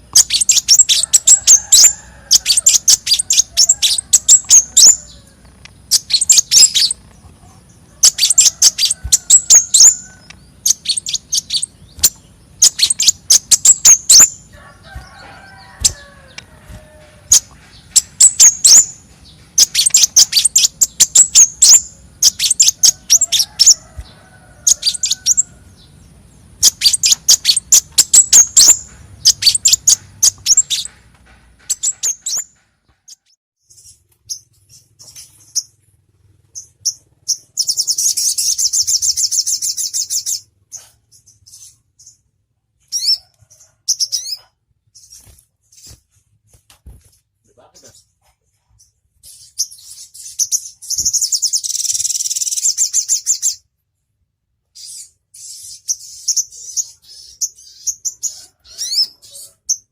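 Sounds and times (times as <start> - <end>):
songbird high-pitched chirps: 0.0 - 31.0, 31.6 - 35.9, 36.5 - 46.1, 47.5 - 53.7, 54.6 - 59.9.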